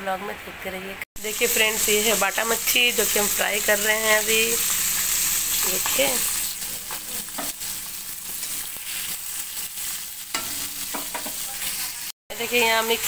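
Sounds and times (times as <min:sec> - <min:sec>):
oil sizzling with frying fish: 0:01.2 - 0:13.0.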